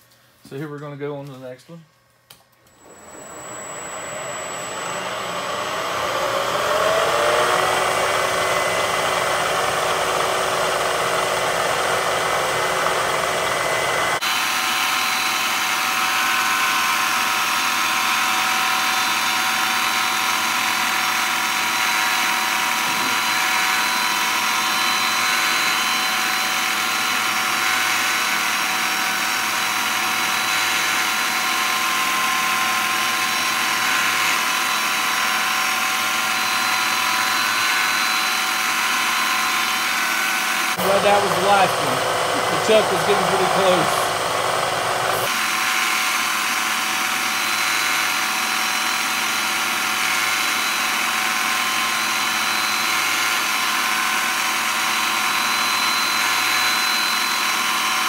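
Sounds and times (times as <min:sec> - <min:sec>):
milling machine spindle drilling: 0:02.8 - 0:58.0.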